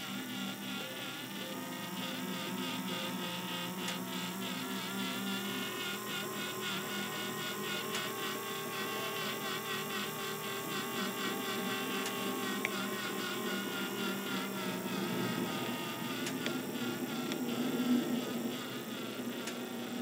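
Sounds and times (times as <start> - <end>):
laminator motor whirring: 0.0 - 20.0.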